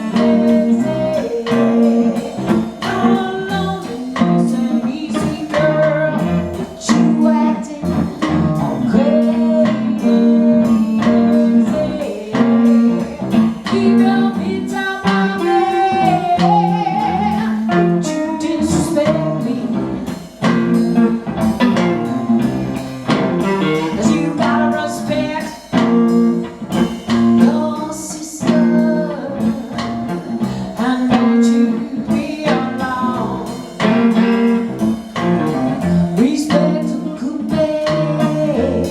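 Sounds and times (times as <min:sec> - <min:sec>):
blues guitar playing: 0:00.0 - 0:38.9
person singing: 0:00.0 - 0:38.9.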